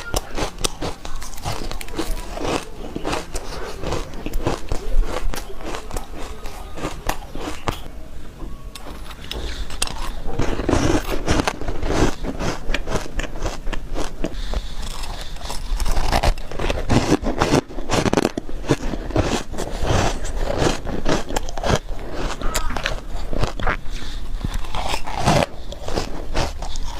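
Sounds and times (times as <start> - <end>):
ice being chewed: 0.0 - 7.9, 8.7 - 26.9.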